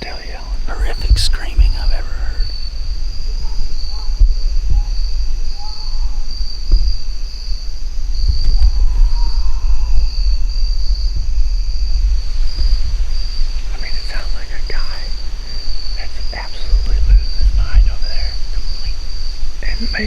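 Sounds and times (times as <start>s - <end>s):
insect drone: 0.0s - 20.0s
wind rumble on microphone: 0.0s - 20.0s.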